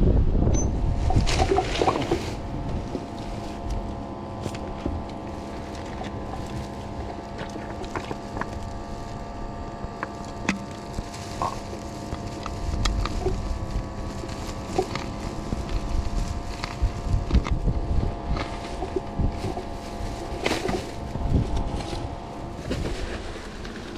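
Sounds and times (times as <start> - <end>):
steady hum with held tones: 0.0 - 23.9
plastic bag handled: 0.9 - 23.9
plastic bottles crinkling: 0.9 - 23.9.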